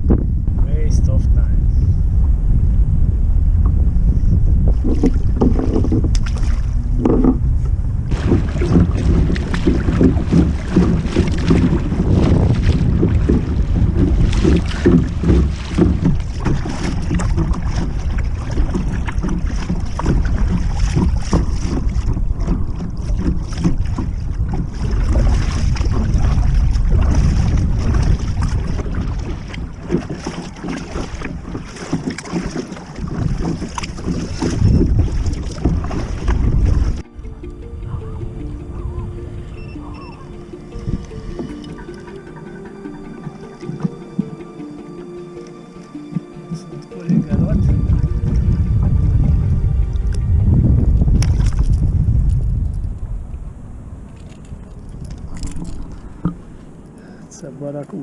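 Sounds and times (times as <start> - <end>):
wind buffeting microphone: 0.0 - 44.4, 46.1 - 57.5
water slapping kayak hull: 3.3 - 58.0.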